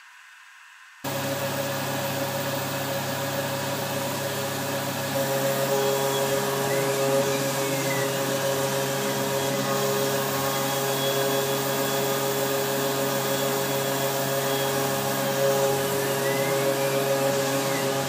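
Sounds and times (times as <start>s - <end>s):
mill spindle whining: 1.1s - 18.0s.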